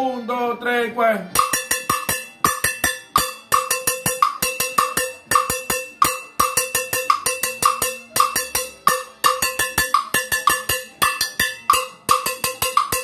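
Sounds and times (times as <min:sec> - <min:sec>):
stick striking bell rhythm: 0:01.4 - 0:13.0.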